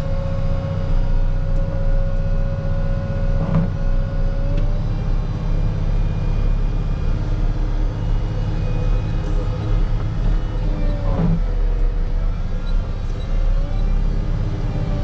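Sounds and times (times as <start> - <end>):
wheel loader diesel engine running: 0.0 - 15.0.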